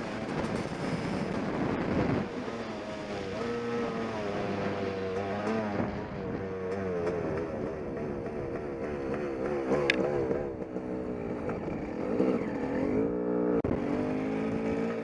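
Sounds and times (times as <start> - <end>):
two-stroke engine revving: 0.3 - 15.0.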